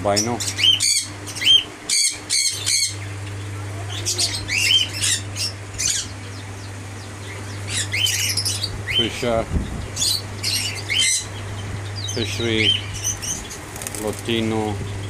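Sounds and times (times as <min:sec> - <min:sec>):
faint low hum: 0:00.0 - 0:15.0
lovebirds squawking and chirping: 0:00.0 - 0:15.0.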